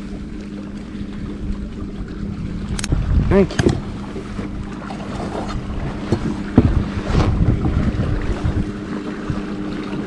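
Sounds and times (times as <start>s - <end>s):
steady low hum: 0.0s - 10.0s
wind buffeting microphone: 0.8s - 10.0s.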